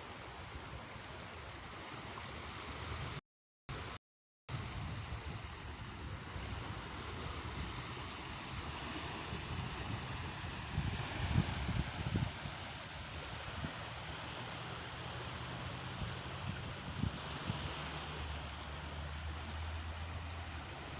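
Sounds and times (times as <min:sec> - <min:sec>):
wind rumbling on microphone: 0:00.0 - 0:03.9, 0:04.5 - 0:20.9
sea waves washing in: 0:00.0 - 0:20.9.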